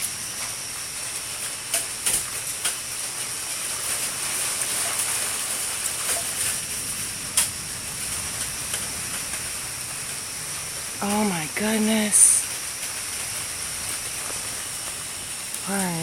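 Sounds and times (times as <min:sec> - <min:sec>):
light rain hissing: 0:00.0 - 0:16.0.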